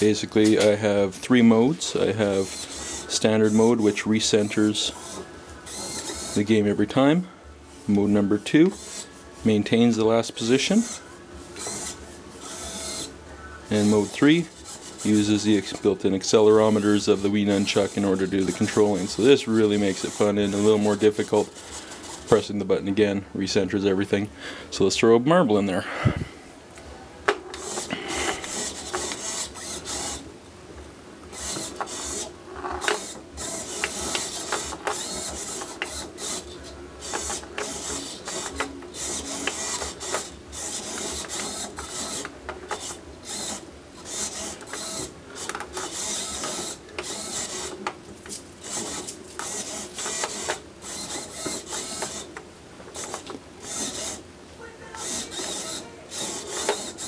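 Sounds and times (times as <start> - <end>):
small servos whirring: 0.0 - 7.2, 7.9 - 22.5, 27.3 - 30.3, 31.2 - 57.0.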